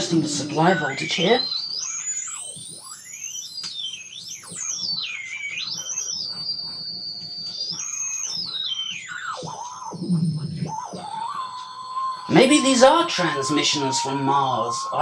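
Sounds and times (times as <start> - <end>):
radio whistle gliding in pitch: 0.0 - 15.0.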